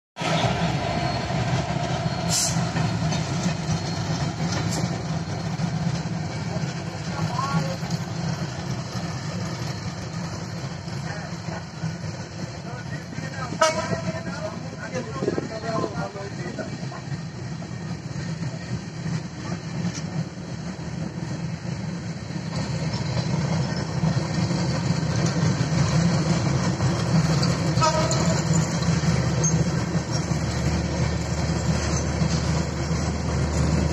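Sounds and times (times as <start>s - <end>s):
diesel train rumbling past: 0.2s - 33.9s.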